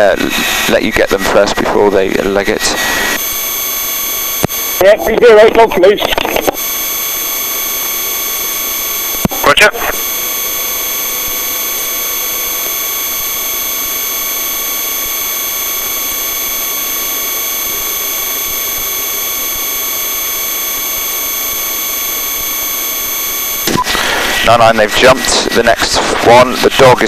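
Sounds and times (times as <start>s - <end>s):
helicopter turbine and rotor drone: 0.0s - 27.0s
high-pitched whines: 0.0s - 27.0s.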